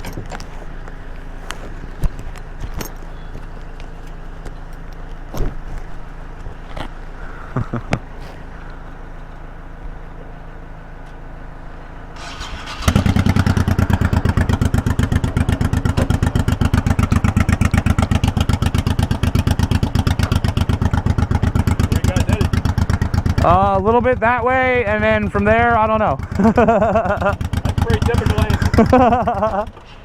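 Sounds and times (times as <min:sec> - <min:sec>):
motorcycle engine starting and idling: 0:00.0 - 0:09.9, 0:10.6 - 0:30.0.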